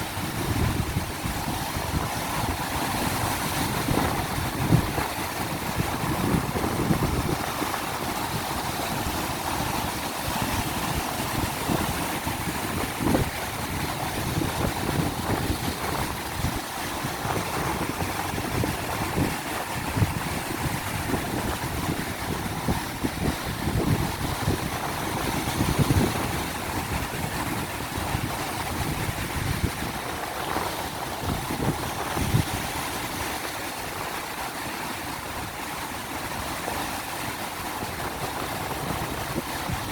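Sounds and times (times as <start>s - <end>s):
ocean surf breaking: 0.0s - 39.9s
wind gusting on microphone: 0.0s - 39.9s.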